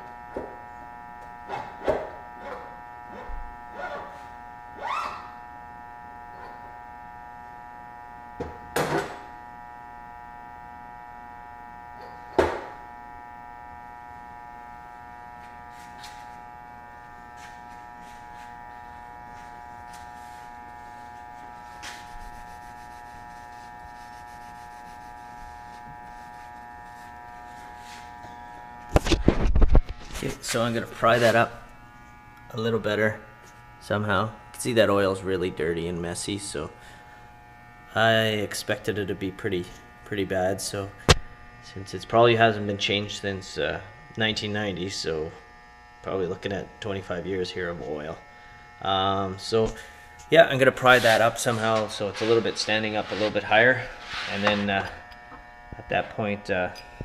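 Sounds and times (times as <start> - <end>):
steady motor hum: 0.0 - 57.0.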